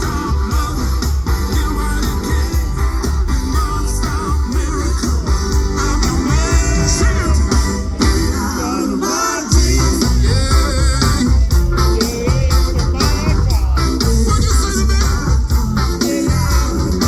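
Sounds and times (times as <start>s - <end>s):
live pop band: 0.0s - 17.0s
person singing: 0.0s - 17.0s.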